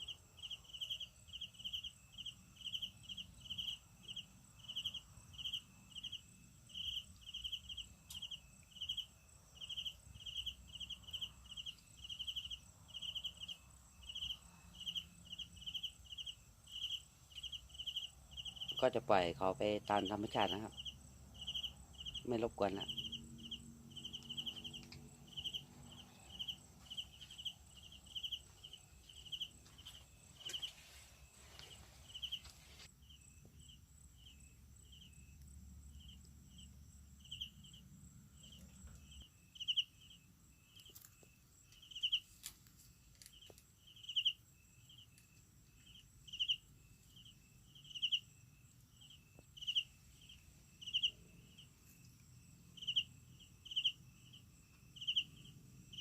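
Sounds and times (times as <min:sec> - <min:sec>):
thin high insect buzz: 0:00.0 - 0:19.3, 0:19.9 - 0:56.0
insect chirping: 0:00.0 - 0:56.0.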